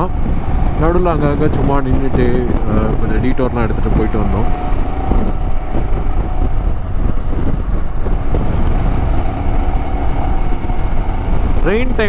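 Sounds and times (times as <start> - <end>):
motorcycle engine drone: 0.0 - 12.0
wind noise on microphone: 0.0 - 12.0.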